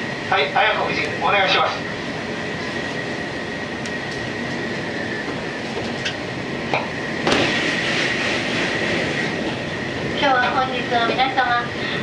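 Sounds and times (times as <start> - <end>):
electric train running: 0.0 - 12.0
passing train rush: 0.0 - 12.0.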